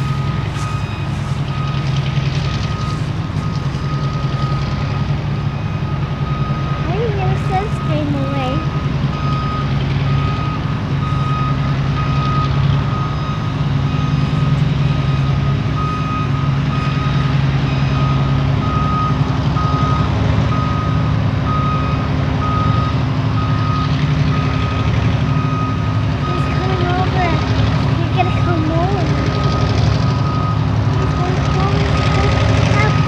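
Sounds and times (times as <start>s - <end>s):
locomotive diesel drone: 0.0s - 33.0s.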